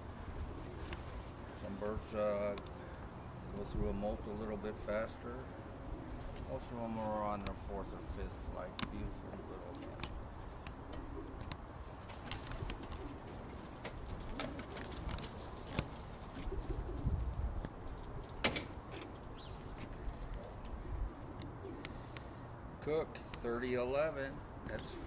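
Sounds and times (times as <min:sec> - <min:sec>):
pigeons cooing: 0:00.0 - 0:22.7, 0:24.6 - 0:25.0.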